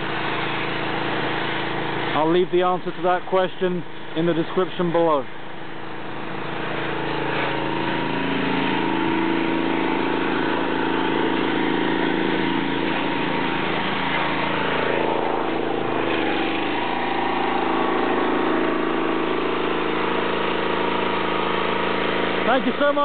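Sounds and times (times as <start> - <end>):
pressure washer engine running: 0.0 - 23.0.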